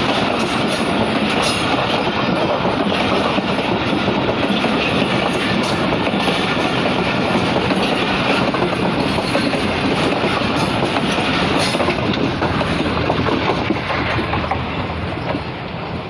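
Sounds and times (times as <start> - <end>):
clatter over rail joints: 0.0 - 16.0
train wheels rushing on rail: 0.0 - 16.0.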